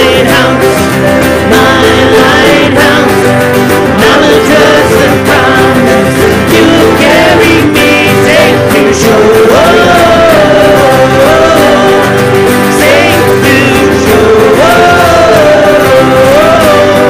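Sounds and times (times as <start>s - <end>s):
acoustic guitars strumming: 0.0s - 17.0s
voices singing a worship song: 0.0s - 17.0s.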